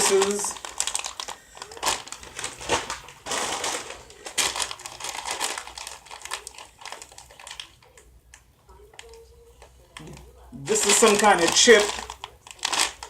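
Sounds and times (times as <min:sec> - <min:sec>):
plastic chip bag crinkling: 0:00.0 - 0:08.1, 0:08.7 - 0:13.0.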